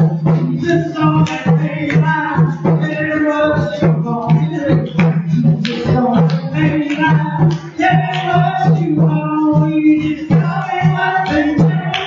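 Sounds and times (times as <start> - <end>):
man singing: 0.0 - 12.0
steady beat: 0.0 - 12.0
strummed acoustic guitar: 0.0 - 12.0.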